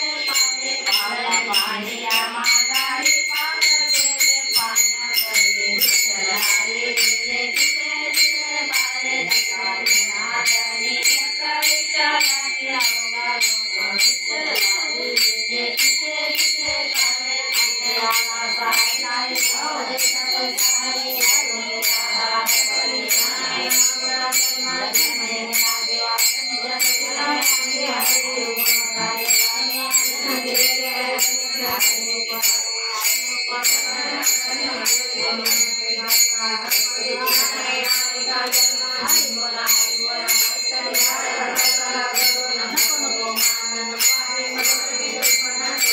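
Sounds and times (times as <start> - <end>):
devotional group singing: 0.0 - 45.9
hand cymbals ringing: 0.0 - 45.9.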